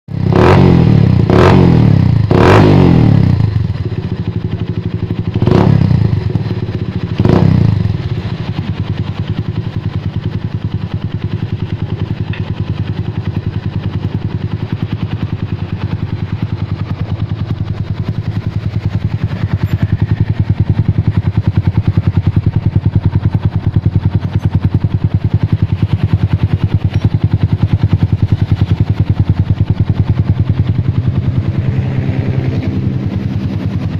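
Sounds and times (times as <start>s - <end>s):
motorcycle engine revving and idling: 0.1s - 33.9s.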